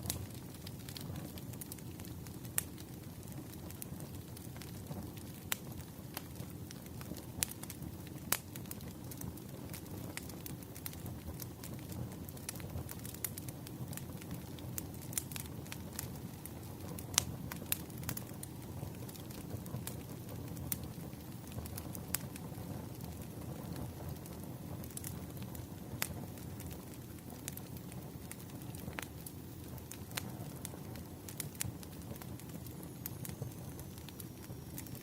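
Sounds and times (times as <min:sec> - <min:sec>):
firewood crackling and popping: 0:00.0 - 0:35.0
wood fire rumbling: 0:00.0 - 0:35.0.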